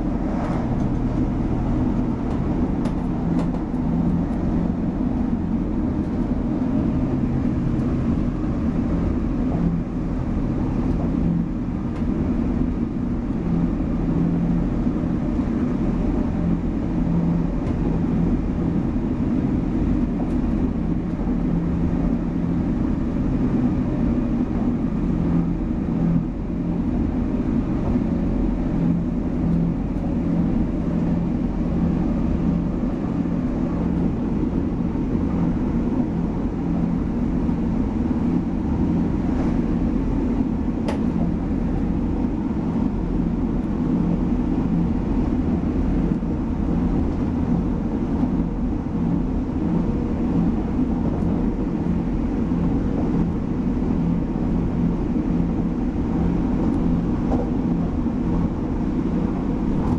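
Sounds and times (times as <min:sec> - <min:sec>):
train engine hum: 0:00.0 - 0:59.9
train wheels rumbling on rails: 0:00.0 - 0:59.9.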